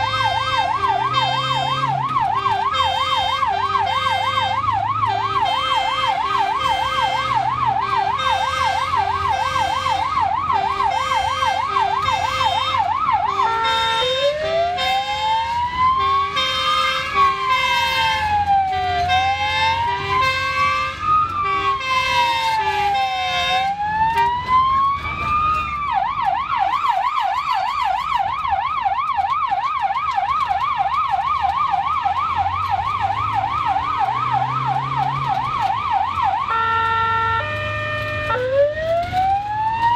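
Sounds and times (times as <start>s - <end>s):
lower two-note siren: 0.0s - 26.2s, 31.6s - 39.9s
ambulance siren yelp and wail: 0.0s - 39.9s
vehicle hum: 0.0s - 39.9s.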